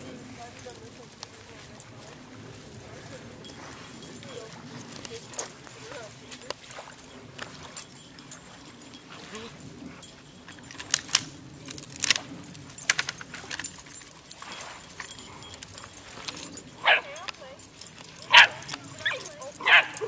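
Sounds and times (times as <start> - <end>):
shells and gravel clinking: 0.0 - 20.0
steady low rumble: 0.0 - 20.0.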